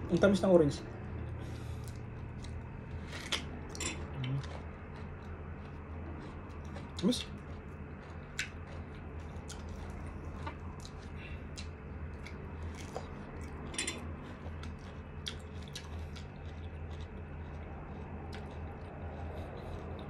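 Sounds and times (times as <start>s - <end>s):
steady low hum: 0.0s - 20.0s
person chewing with mouth clicks: 1.0s - 20.0s.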